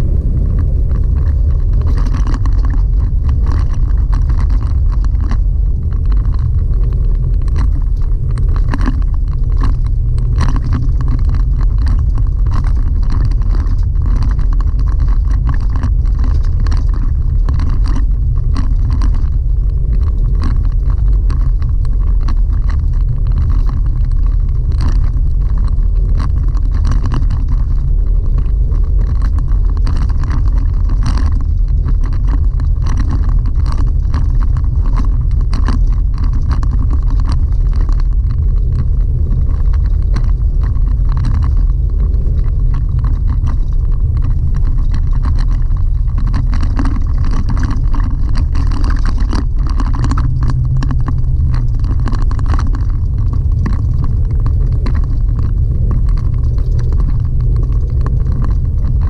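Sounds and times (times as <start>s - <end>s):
low rumble of tyres on gravel: 0.0s - 59.0s
small clicks and rattles: 0.0s - 59.0s.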